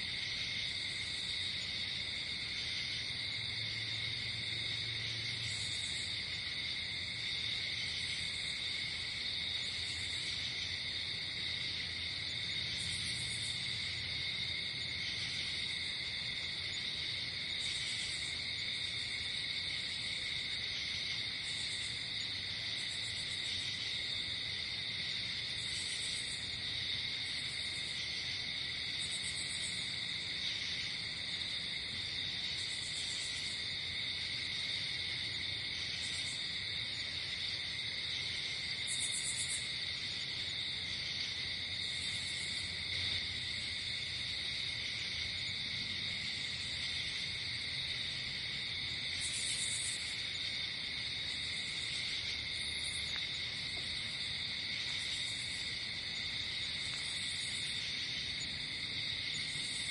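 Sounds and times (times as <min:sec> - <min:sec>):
crickets trilling: 0:00.0 - 0:59.9
high insect chirping: 0:00.1 - 0:59.9.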